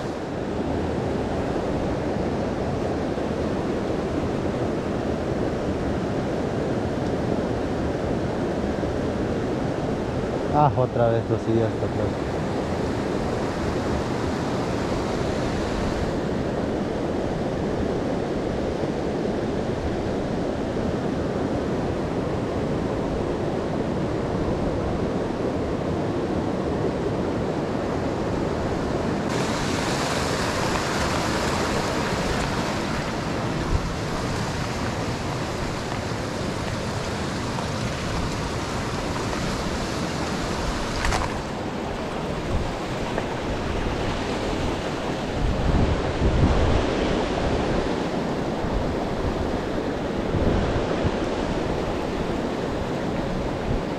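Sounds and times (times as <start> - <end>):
mountain stream rushing: 0.0 - 53.9.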